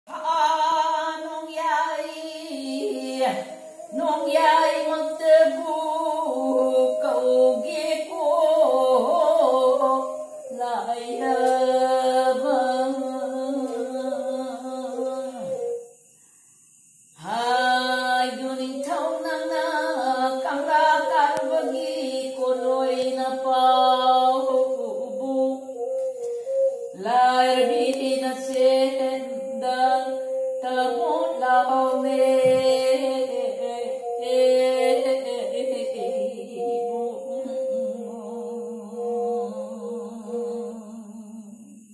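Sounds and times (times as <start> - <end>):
elderly woman singing: 0.1 - 15.9, 17.2 - 41.7.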